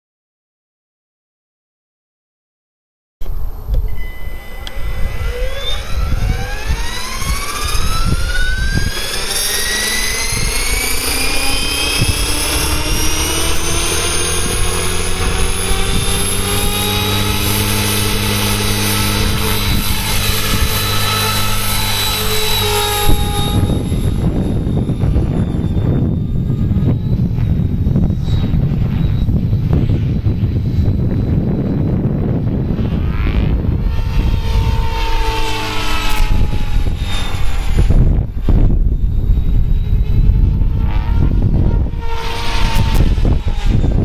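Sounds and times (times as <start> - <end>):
electric motor whine: 3.2 - 44.0
rotor rush and wind: 3.2 - 44.0.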